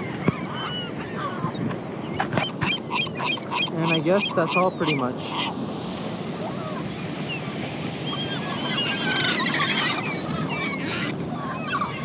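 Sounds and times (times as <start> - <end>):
seagulls squawking: 0.0 - 5.6, 6.3 - 12.0.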